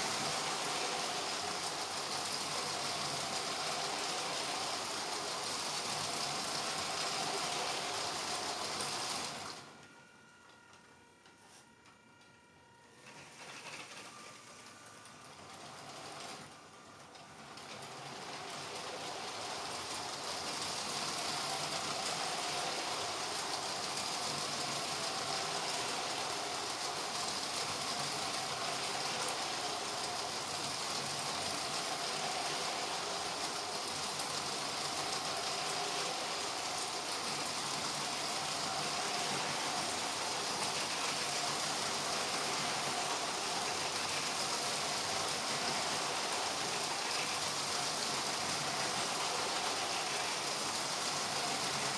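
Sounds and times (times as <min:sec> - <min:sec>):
toy train motors whirring: 0:00.0 - 0:09.6, 0:13.0 - 0:51.9.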